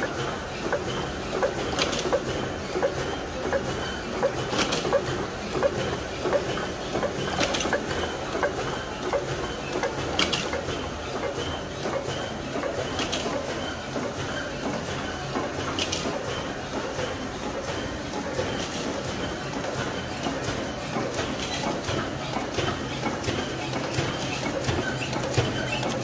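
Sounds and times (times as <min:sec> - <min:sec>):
printing machine clatter: 0:00.0 - 0:26.0.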